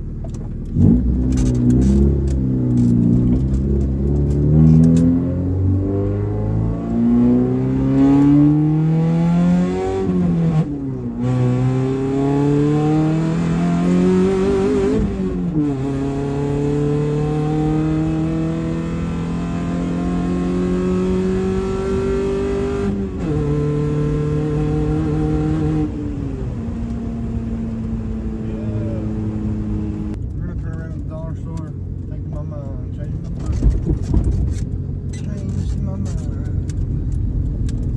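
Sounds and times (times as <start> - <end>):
car engine accelerating: 0.0 - 37.9.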